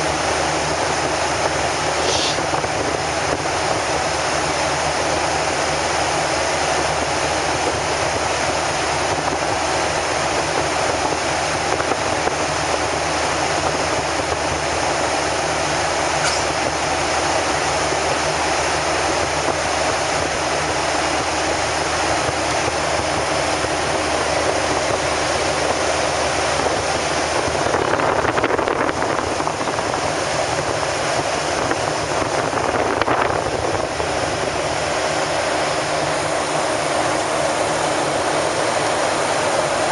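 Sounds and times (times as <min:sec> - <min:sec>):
airplane cabin engine and airflow noise: 0:00.0 - 0:39.9.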